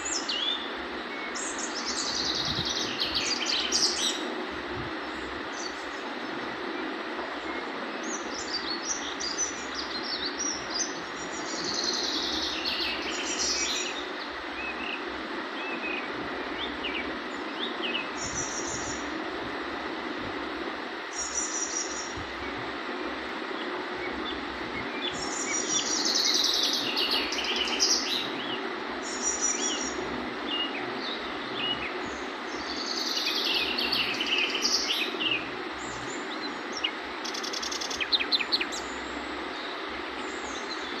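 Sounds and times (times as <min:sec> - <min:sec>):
background hiss: 0:00.0 - 0:41.0
birds chirping: 0:00.0 - 0:41.0.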